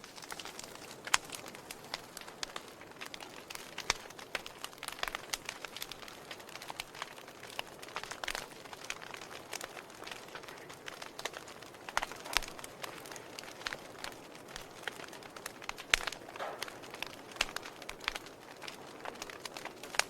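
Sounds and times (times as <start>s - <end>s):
soft hiss of fire: 0.0s - 20.0s
wood logs crackling in fireplace: 0.0s - 20.0s.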